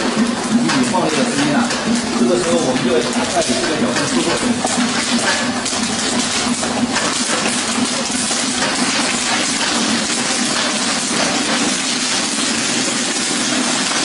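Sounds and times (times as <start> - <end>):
popcorn kernels popping: 0.0 - 14.0.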